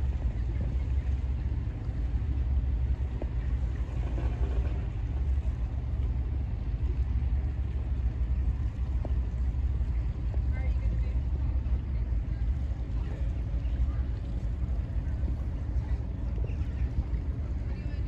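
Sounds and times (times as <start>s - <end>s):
boat engine rumble: 0.0s - 18.0s
water wash: 0.0s - 18.0s.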